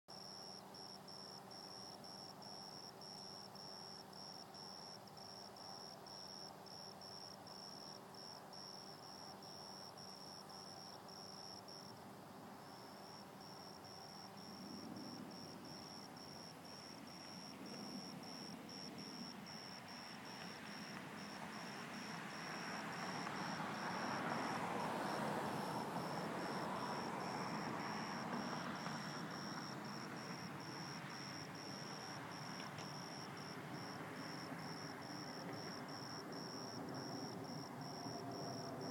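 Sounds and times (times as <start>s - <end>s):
crickets chirping: 0.1s - 38.9s.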